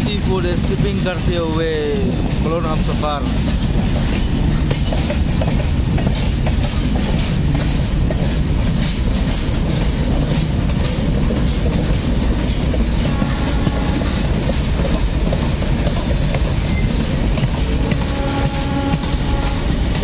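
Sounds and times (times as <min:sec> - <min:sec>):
clickety-clack over rail joints: 0:00.0 - 0:20.0
train wheels rumbling on rails: 0:00.0 - 0:20.0.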